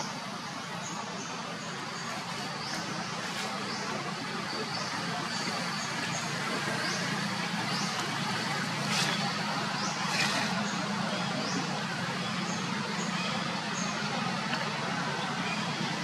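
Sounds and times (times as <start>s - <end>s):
outdoor background hum: 0.0s - 16.0s.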